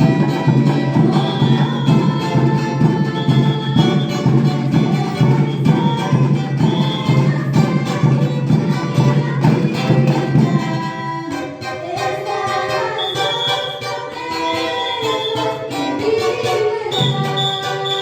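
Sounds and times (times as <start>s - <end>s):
band playing: 0.0s - 18.0s.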